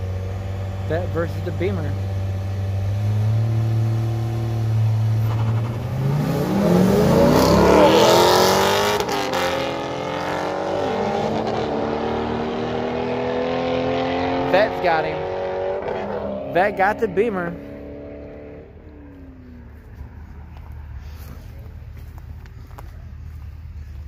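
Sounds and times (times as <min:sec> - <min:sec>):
car engines revving and accelerating: 0:00.0 - 0:24.0.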